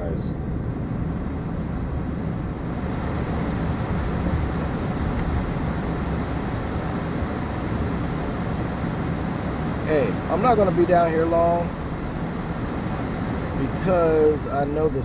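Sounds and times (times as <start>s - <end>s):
car cabin low rumble: 0.0s - 15.0s.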